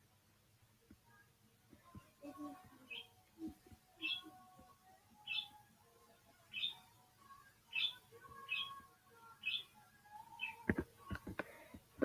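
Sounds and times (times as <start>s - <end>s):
bird chirping faintly: 1.1s - 11.0s.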